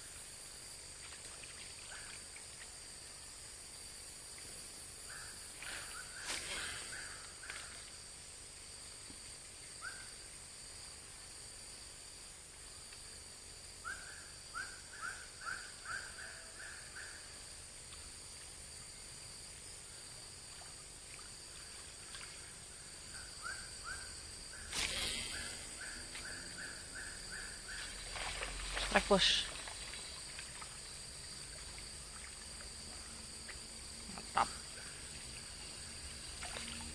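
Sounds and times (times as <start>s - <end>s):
insects droning: 0.0s - 36.9s.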